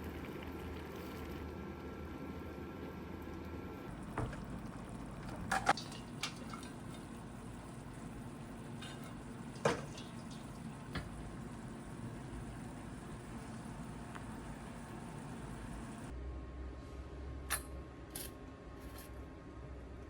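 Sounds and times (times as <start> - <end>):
liquid bubbling: 0.0 - 16.1.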